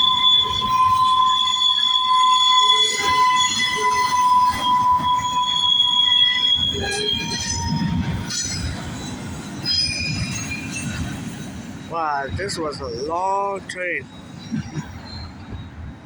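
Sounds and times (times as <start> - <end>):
freight train rumble: 0.0 - 16.0
train wheels squealing on rail: 0.0 - 16.0.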